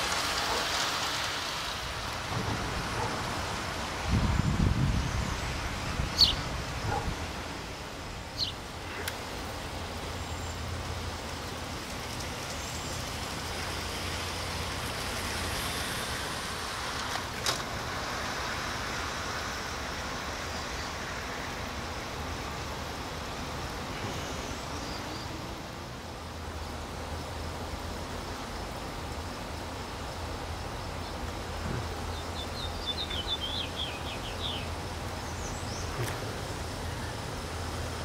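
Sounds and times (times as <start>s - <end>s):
model train rumbling on track: 0.0s - 38.0s
outdoor hiss: 0.0s - 38.0s.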